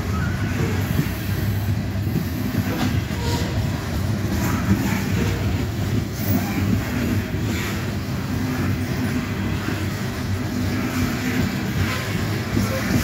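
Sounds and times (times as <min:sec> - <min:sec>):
train wheels rumbling on rail: 0:00.0 - 0:13.0
wheels clacking over rail joints: 0:00.0 - 0:13.0.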